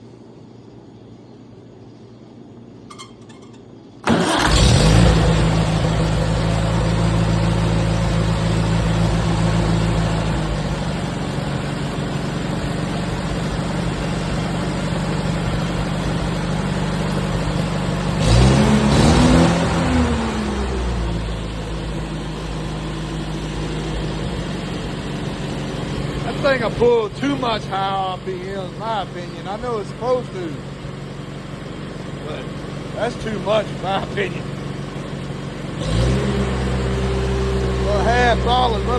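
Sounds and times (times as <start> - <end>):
tractor engine starting and idling: 2.9 - 38.9.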